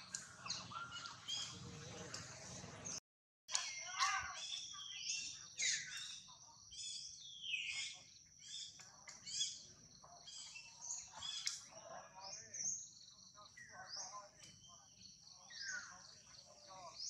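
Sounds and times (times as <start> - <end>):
birds chirping and calling: 0.0 - 17.0.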